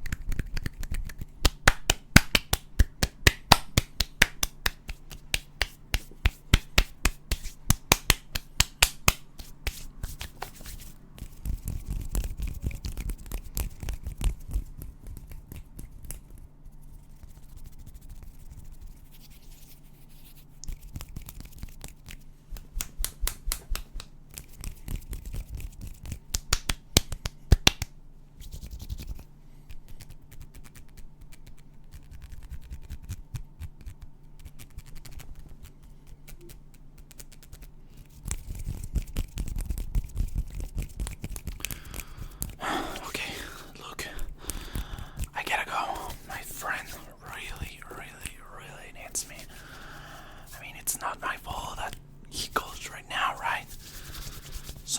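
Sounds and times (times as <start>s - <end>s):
rapid sharp clicks and snaps: 0.0s - 16.5s, 20.6s - 28.0s, 29.7s - 54.9s
hands rubbing and scratching: 0.0s - 54.9s.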